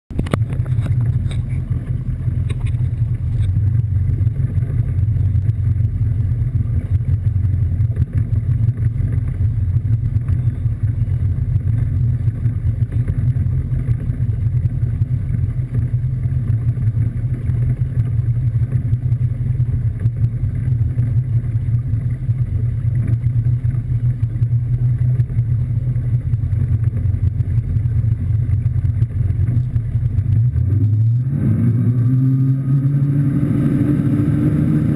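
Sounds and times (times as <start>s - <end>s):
boat engine droning: 0.1s - 34.9s.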